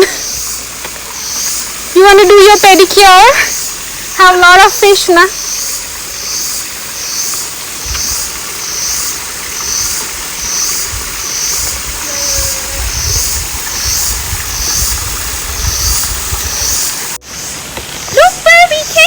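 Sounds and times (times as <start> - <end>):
insects buzzing in pulses: 0.0 - 19.0.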